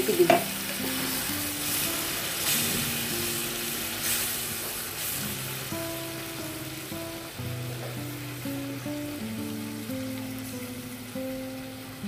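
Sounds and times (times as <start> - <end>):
background music of held notes: 0.0 - 12.0
curry sizzling in a pan: 0.0 - 12.0.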